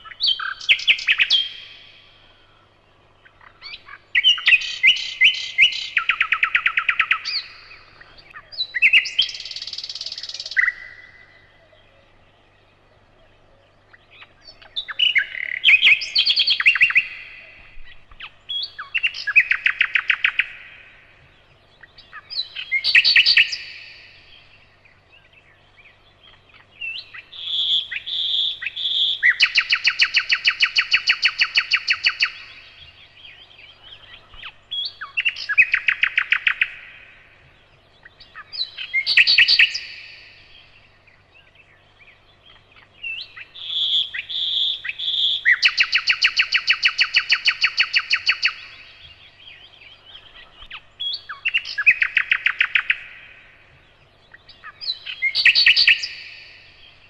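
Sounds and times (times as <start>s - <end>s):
nightingale singing: 0.0s - 57.0s.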